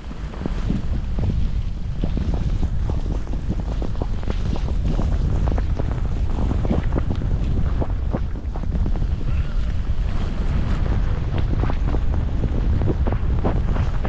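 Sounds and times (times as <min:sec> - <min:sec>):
skis scraping over snow: 0:00.0 - 0:14.0
wind buffeting microphone: 0:00.0 - 0:14.0.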